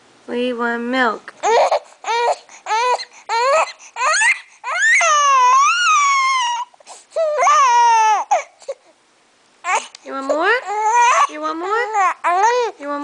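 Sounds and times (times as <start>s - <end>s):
baby crying: 1.4s - 8.9s, 9.6s - 13.0s.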